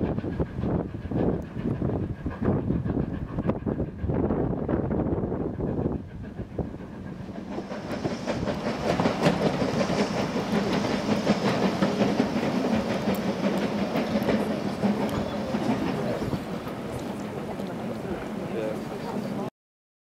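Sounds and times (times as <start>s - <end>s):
train wheels clicking over rails: 0.0s - 19.4s.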